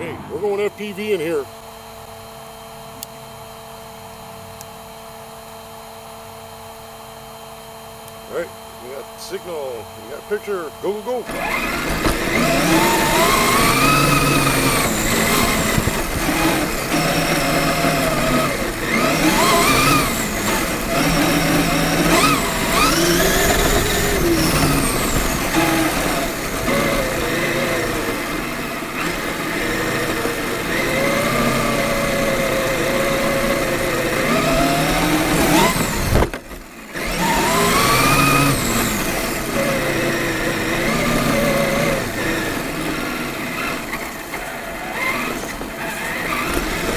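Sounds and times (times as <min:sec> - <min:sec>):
toy truck motor whining: 0:08.1 - 0:46.9.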